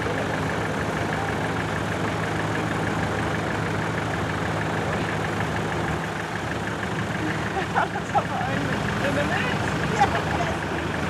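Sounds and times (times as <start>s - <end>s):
car engine near idle: 0.0s - 11.0s.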